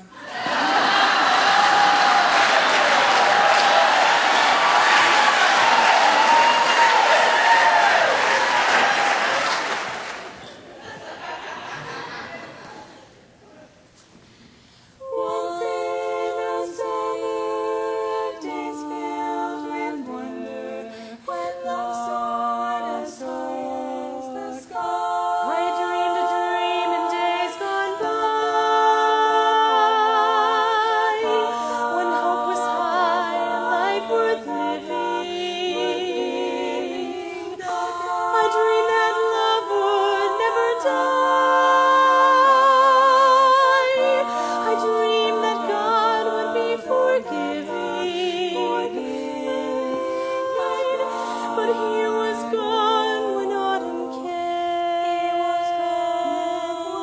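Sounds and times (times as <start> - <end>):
women singing a cappella harmony: 0.0 - 5.4, 14.9 - 57.0.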